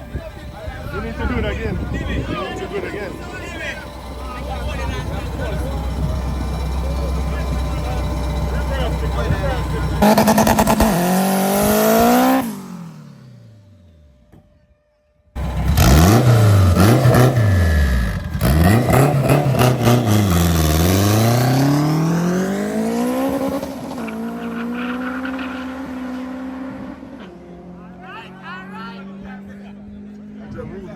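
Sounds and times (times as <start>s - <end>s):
car engine revving: 0.0s - 14.4s, 15.4s - 30.9s.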